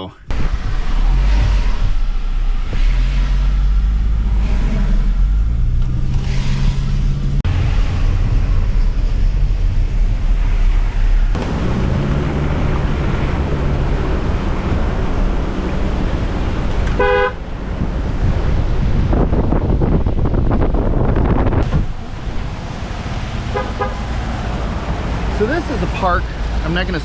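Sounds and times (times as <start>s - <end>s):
road and wind noise: 0.0s - 27.0s
car engine accelerating: 0.3s - 27.0s.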